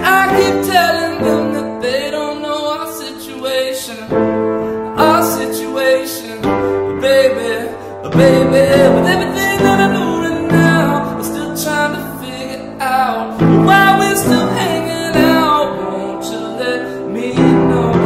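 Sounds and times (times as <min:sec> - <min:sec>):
man singing wordless runs: 0:00.0 - 0:18.0
piano chords: 0:00.0 - 0:18.0.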